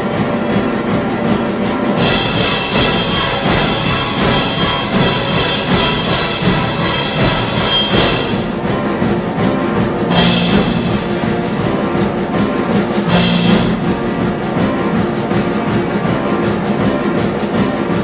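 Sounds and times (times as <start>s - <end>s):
drums: 0.0s - 18.0s
orchestra playing: 0.0s - 18.0s.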